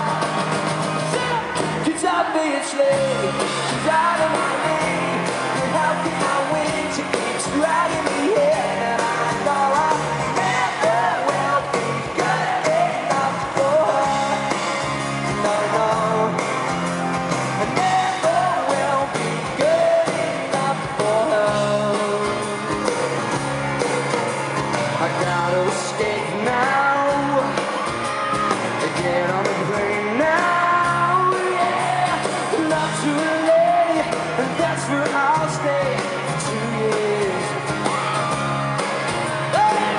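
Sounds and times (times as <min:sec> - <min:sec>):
lead vocal singing: 0:00.0 - 0:16.7, 0:17.5 - 0:23.2, 0:24.9 - 0:38.2, 0:39.5 - 0:39.9
electric guitars: 0:00.0 - 0:39.9.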